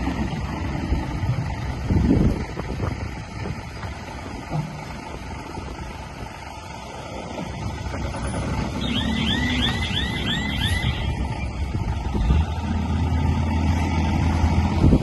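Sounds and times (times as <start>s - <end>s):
heavy machinery engine rumble: 0.0s - 15.0s.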